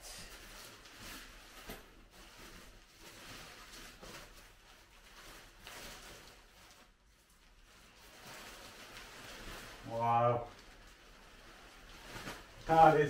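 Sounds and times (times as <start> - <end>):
tent fabric rustling: 0.0 - 13.0.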